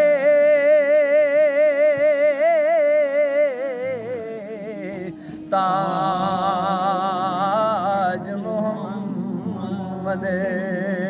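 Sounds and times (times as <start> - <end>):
person singing long wavering note: 0.0 - 11.0.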